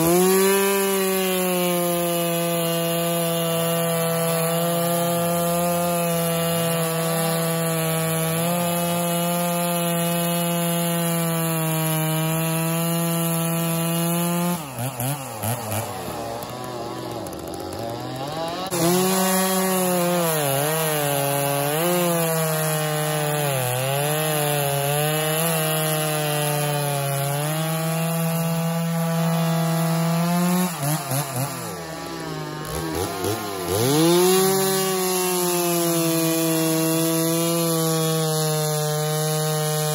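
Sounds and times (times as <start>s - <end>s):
chainsaw cutting log: 0.0s - 39.9s
chainsaw idling: 0.0s - 39.9s.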